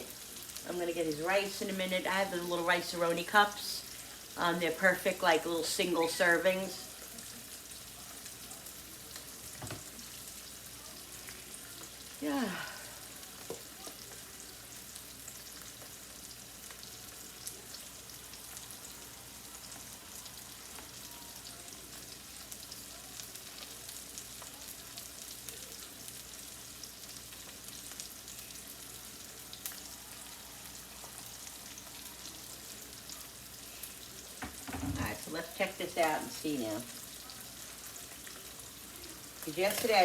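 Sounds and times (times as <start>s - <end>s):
fish sizzling in a frying pan: 0.0s - 40.0s.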